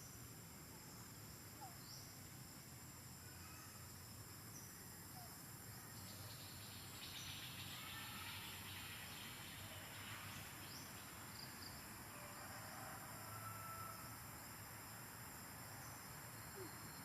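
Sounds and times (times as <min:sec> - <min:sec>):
insect chirps: 0:00.0 - 0:17.0.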